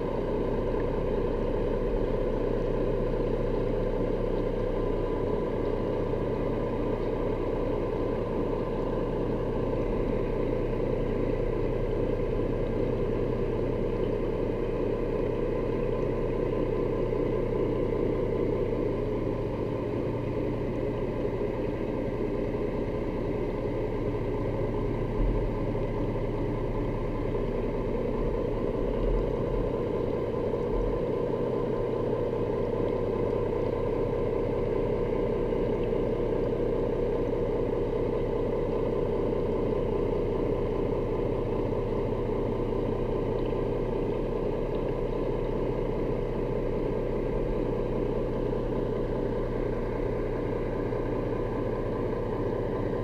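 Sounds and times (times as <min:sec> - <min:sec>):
boat engine heard underwater: 0:00.0 - 0:53.0.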